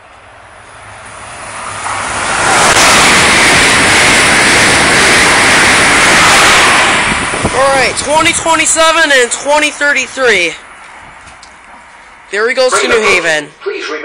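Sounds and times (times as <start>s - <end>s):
train rushing past: 0.0s - 13.5s.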